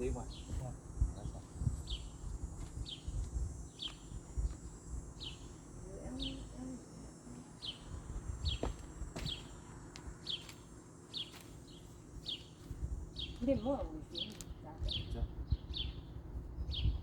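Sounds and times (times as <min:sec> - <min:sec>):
bird chirping: 0:00.0 - 0:09.6, 0:10.2 - 0:17.0.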